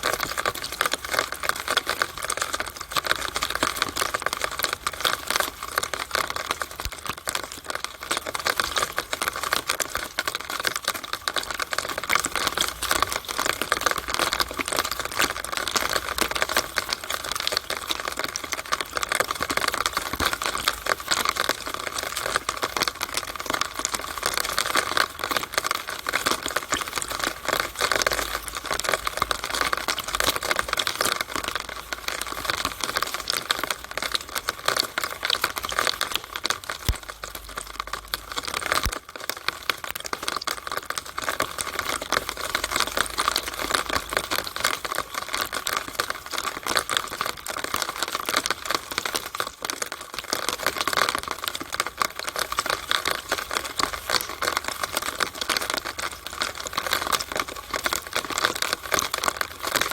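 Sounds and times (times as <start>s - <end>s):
rainwater dripping in downspout: 0.0s - 59.9s.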